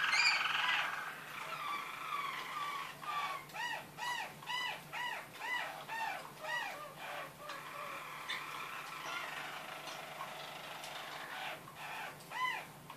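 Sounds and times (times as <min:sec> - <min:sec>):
canary singing: 0:00.0 - 0:12.7.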